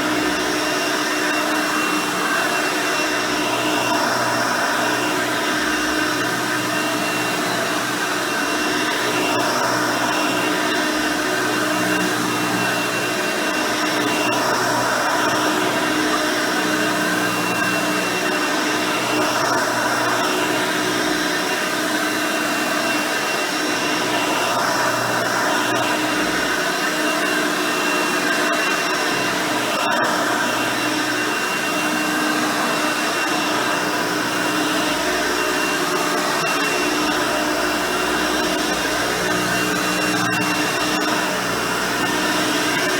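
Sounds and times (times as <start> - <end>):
upright vacuum cleaner whining: 0.0 - 42.9.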